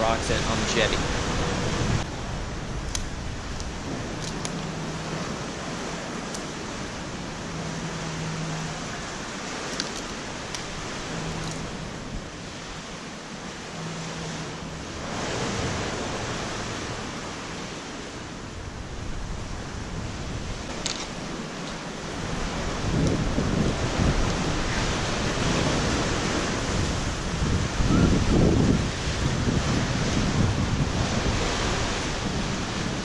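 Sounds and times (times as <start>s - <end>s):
rain and moving water hiss: 0.0s - 33.0s
wind buffeting microphone: 0.0s - 33.0s.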